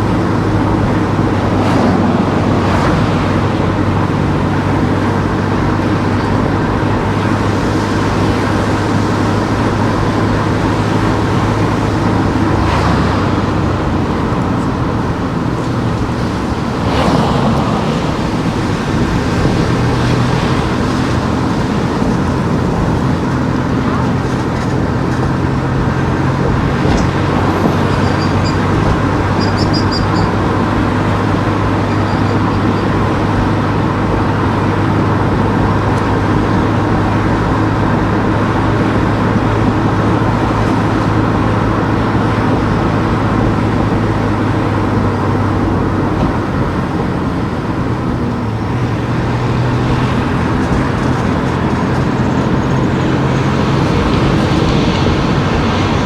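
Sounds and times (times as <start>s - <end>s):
car engine hum: 0.0s - 56.0s
passing traffic: 0.0s - 56.0s.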